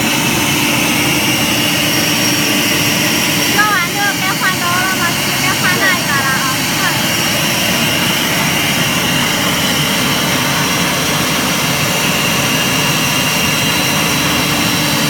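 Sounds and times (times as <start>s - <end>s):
wood router high whine: 0.0s - 15.0s.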